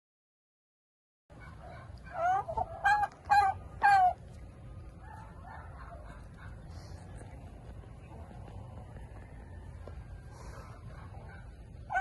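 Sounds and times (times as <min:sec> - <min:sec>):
low background noise: 0:01.3 - 0:12.0.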